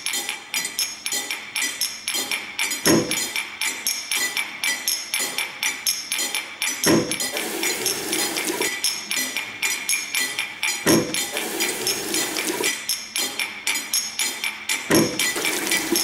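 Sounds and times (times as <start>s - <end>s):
sharp percussive taps and clinks: 0.0s - 16.0s.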